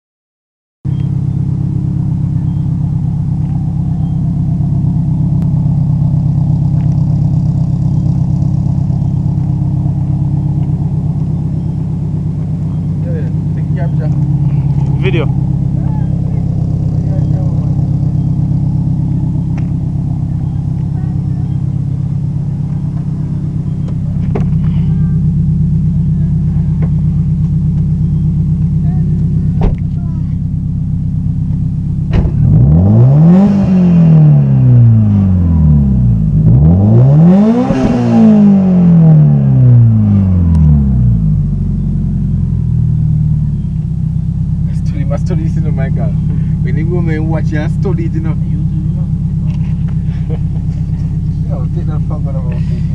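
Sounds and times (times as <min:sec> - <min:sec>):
car engine idling: 0:00.9 - 0:52.9.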